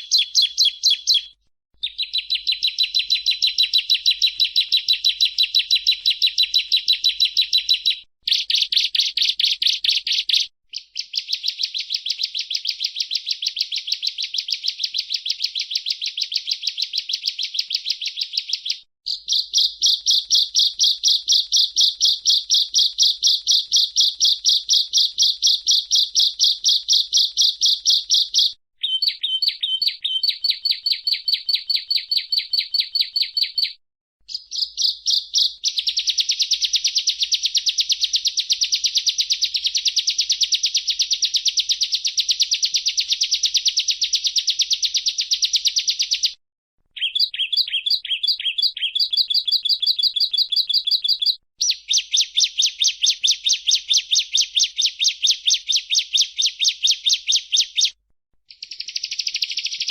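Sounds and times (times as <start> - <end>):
bird singing rapid sharp chips: 0.0 - 46.4, 47.0 - 59.9.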